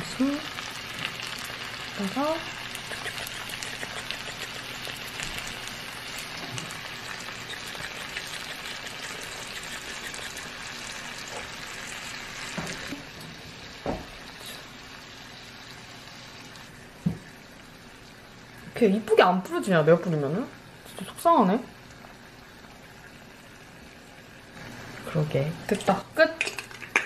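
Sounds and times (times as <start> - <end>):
eggs sizzling in a pan: 0.0 - 27.0.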